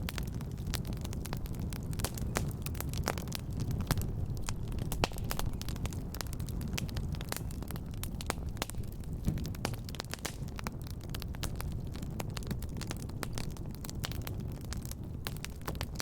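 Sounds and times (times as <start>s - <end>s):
low rumble of burning fire: 0.0s - 16.0s
wood fire crackling: 0.0s - 16.0s.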